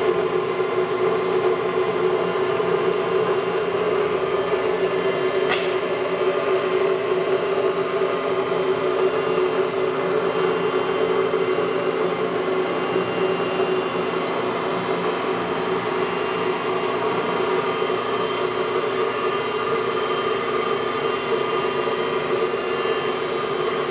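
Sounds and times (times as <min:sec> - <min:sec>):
machinery humming and whirring: 0:00.0 - 0:23.9.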